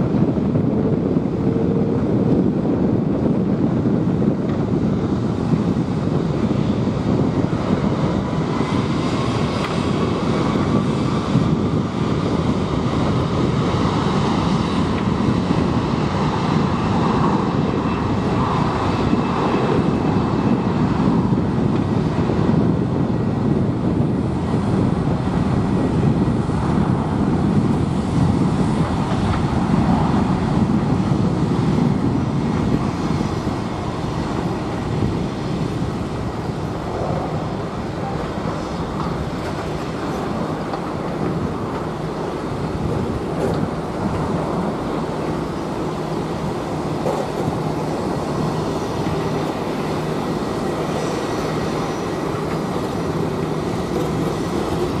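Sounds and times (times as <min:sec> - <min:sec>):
jet engine whine: 0:00.0 - 0:55.0
jet engines rumbling: 0:00.0 - 0:55.0.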